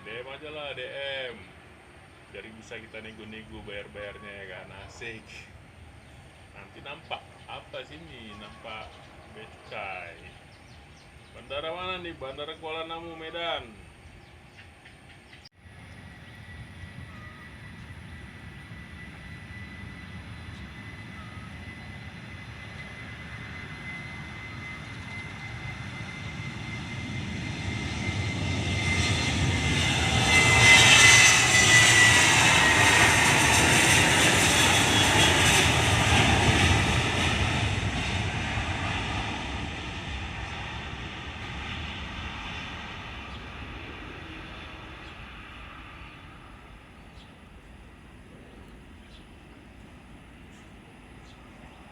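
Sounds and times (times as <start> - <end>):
airliner engines passing: 0.0 - 51.9.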